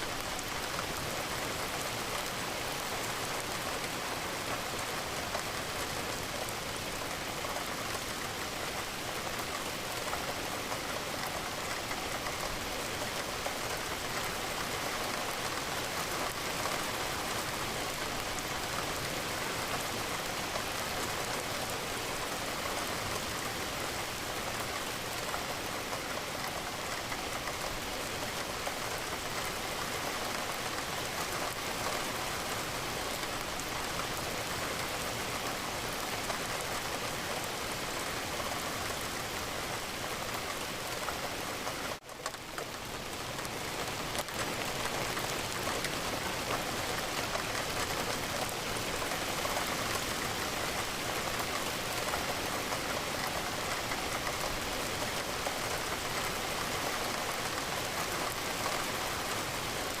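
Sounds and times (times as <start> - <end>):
steady rain patter: 0.0 - 60.0.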